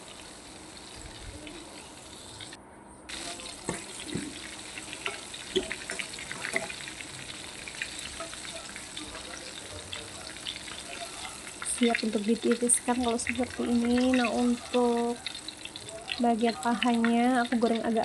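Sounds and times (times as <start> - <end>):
oil sizzling and popping: 0.0 - 18.0.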